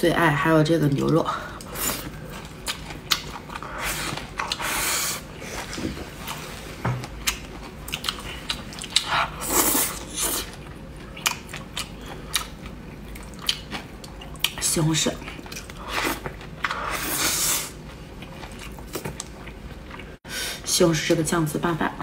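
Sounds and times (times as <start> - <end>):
person chewing food: 1.5 - 14.6, 15.2 - 20.2.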